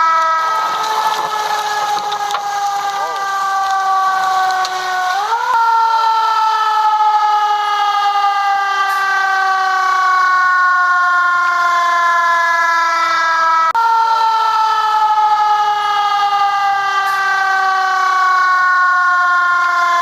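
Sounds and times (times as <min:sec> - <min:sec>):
siren wailing: 0:00.0 - 0:20.0.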